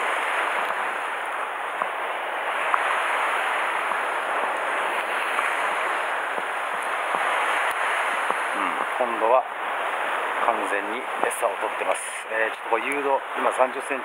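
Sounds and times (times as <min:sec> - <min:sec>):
surf washing against rocks: 0:00.0 - 0:14.0.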